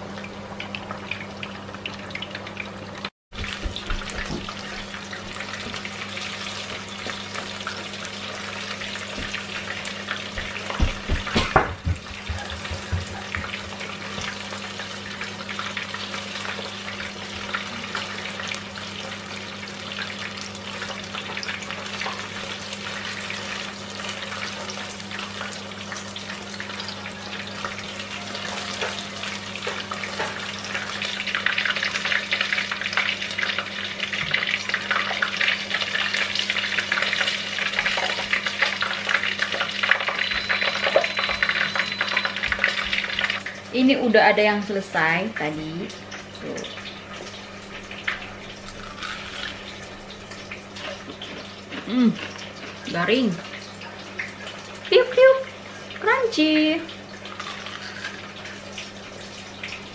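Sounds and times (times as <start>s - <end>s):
chicken wings sizzling in oil: 0.0s - 59.9s.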